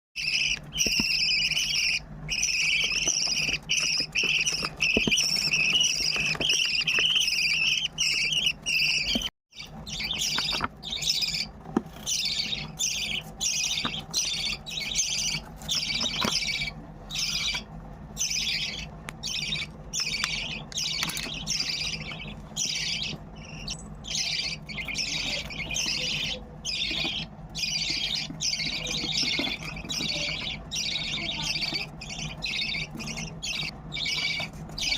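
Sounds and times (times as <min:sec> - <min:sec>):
bird chicks begging calls: 0:00.2 - 0:34.9.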